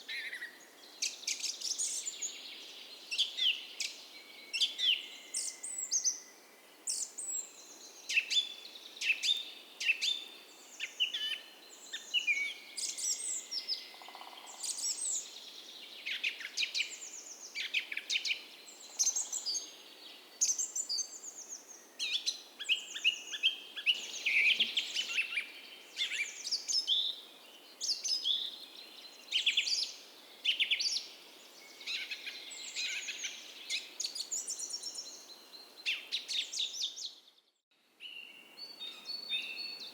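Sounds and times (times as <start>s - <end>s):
faint creek flowing: 0.0s - 36.6s
songbirds chirping: 0.0s - 39.9s.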